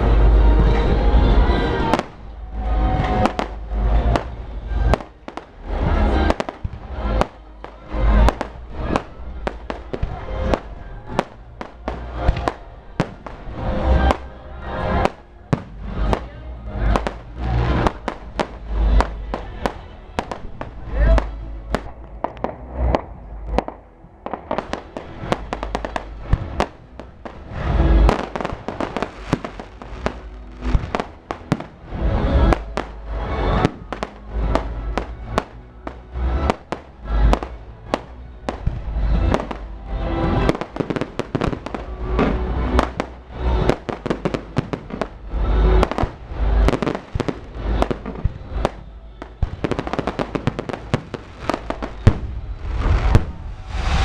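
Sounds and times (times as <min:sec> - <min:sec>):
deep fireworks booms: 0:00.0 - 0:54.0
fireworks crackling pops and bangs: 0:00.0 - 0:54.0.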